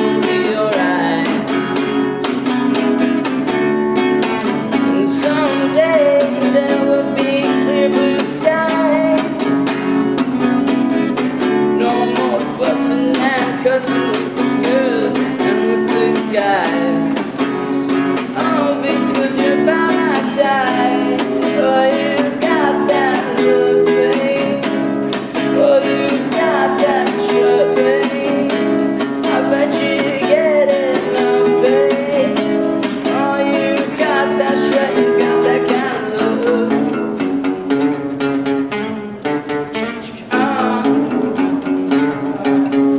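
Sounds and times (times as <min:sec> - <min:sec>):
man singing: 0:00.0 - 0:02.0, 0:04.5 - 0:09.6, 0:11.5 - 0:17.3, 0:18.2 - 0:37.3, 0:39.9 - 0:42.9
guitar strumming: 0:00.0 - 0:42.9.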